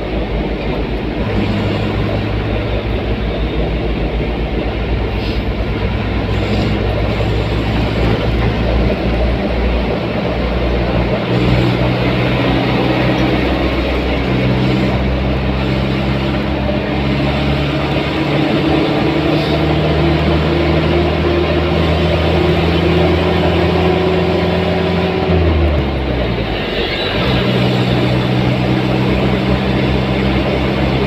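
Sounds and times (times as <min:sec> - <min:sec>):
vehicle engine drone: 0:00.0 - 0:31.0.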